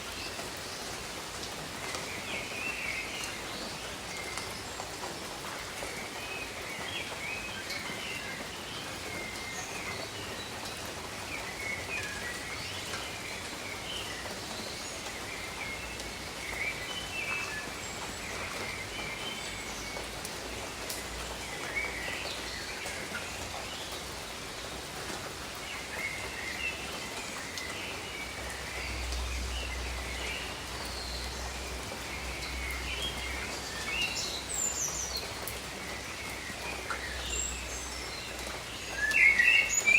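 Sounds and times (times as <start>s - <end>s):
rain on jungle foliage: 0.0s - 39.9s.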